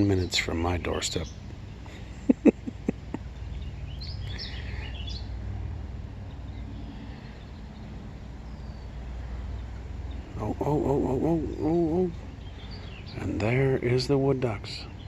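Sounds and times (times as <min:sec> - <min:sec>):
small bird chirping: 0:00.0 - 0:05.5, 0:06.1 - 0:15.0
steady low rumble: 0:00.0 - 0:15.0.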